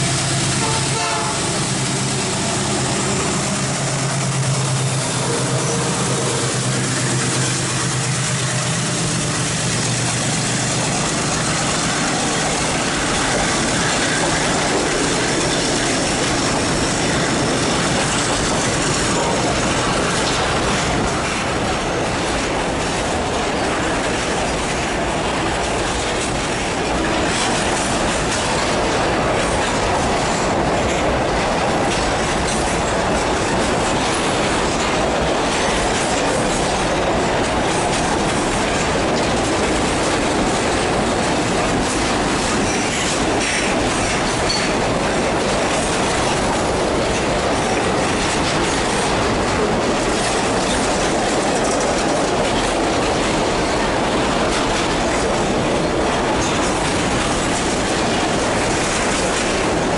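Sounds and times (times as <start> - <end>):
diesel locomotive engine: 0.0 - 59.9
train wheels on rails: 0.0 - 59.9.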